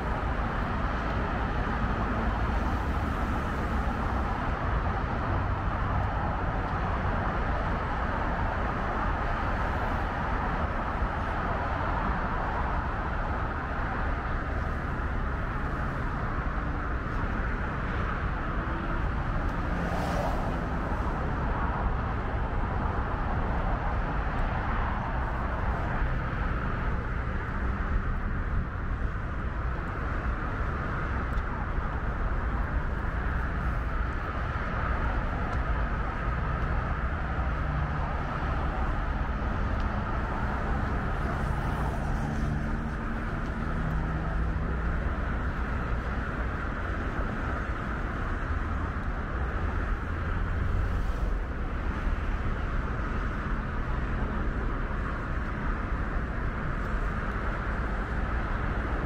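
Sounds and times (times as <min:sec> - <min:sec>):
freeway traffic: 0:00.0 - 0:59.0.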